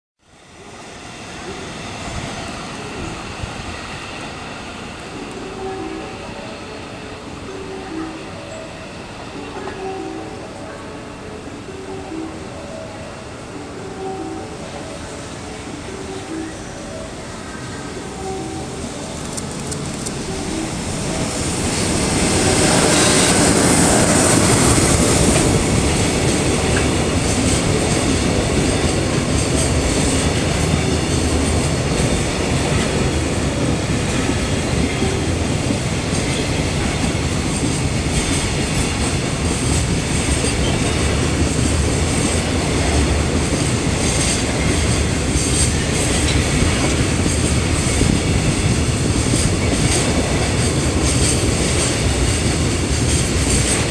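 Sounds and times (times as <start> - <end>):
electric locomotive passing: 0.2 - 53.9.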